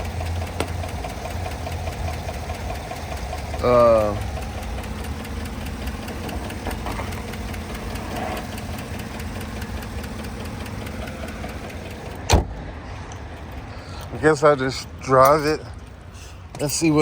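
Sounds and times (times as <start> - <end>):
engine idling with ticking: 0.0 - 17.0.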